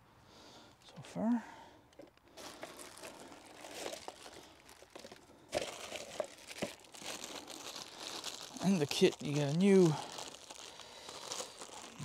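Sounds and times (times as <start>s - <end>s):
plastic packaging crinkling: 2.0s - 12.0s.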